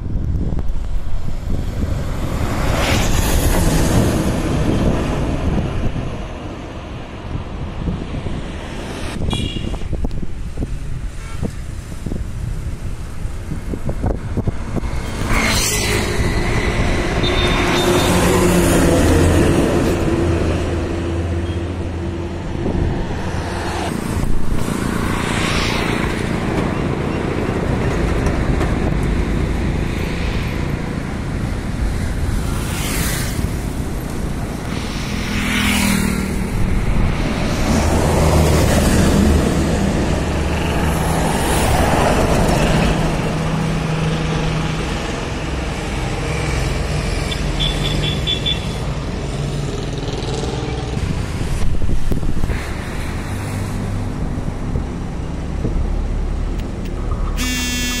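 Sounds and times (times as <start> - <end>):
traffic passing close: 0.0 - 58.0.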